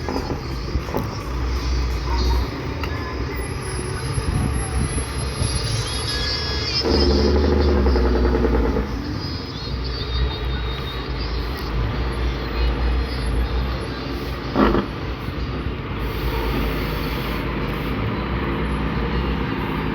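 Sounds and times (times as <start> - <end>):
loud engine drone: 0.0 - 19.9
vehicle engines rumbling: 0.0 - 19.9.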